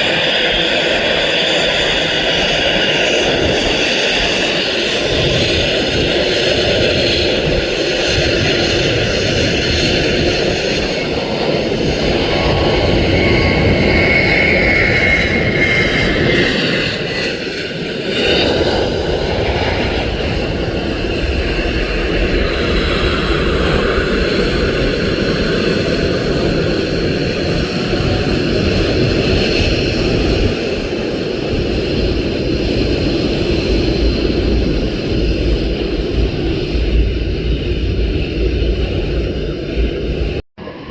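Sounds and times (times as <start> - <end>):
jet engines running loudly: 0.0 - 40.9.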